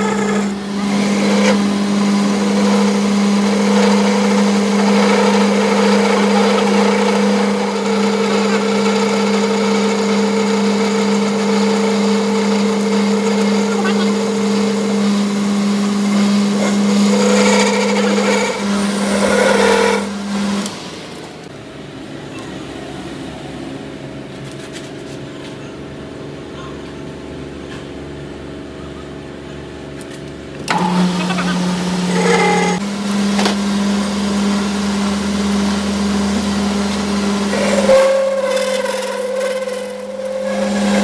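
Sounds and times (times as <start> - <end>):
shop machine humming: 0.0 - 41.0.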